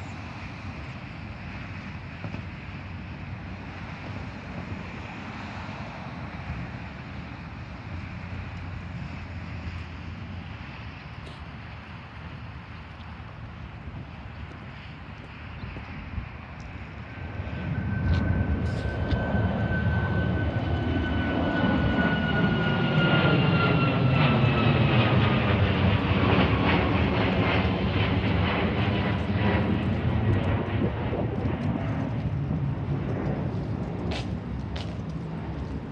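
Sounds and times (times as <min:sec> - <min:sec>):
jet plane roaring overhead: 0:00.0 - 0:35.9.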